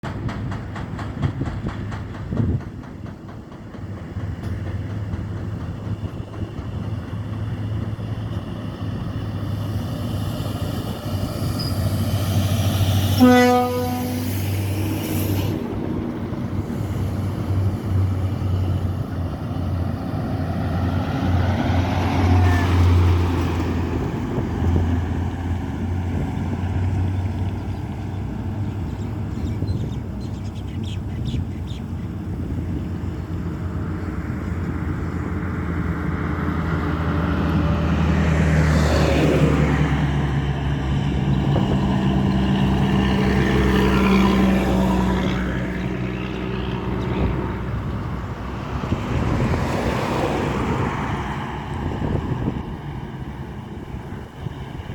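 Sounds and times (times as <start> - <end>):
diesel truck passing: 3.2 - 54.9.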